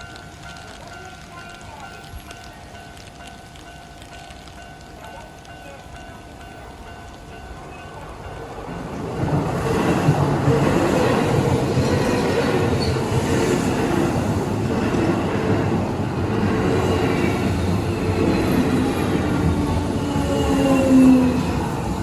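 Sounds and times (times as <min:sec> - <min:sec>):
electric train passing: 0:00.0 - 0:22.0
wheels rumbling on rails: 0:00.0 - 0:22.0.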